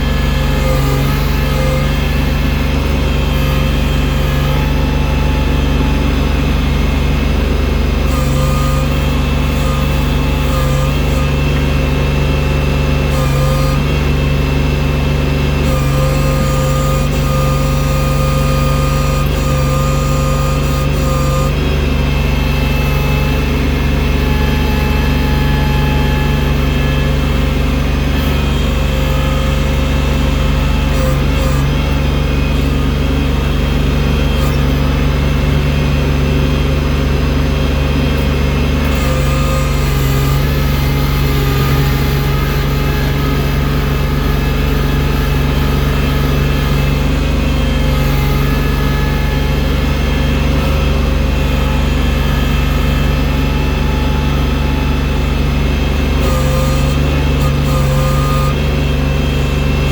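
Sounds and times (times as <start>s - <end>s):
thin whining tones: 0.0s - 59.9s
tractor engine running: 0.0s - 59.9s.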